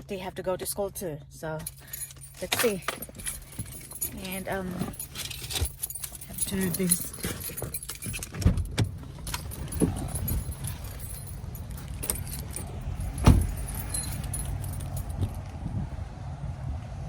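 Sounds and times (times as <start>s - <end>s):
metallic jingling and rattling: 0.7s - 15.9s.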